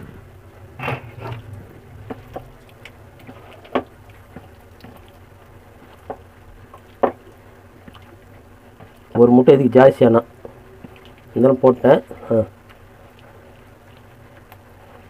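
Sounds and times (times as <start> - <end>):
wet squelching of kneaded batter: 1.0 - 15.0.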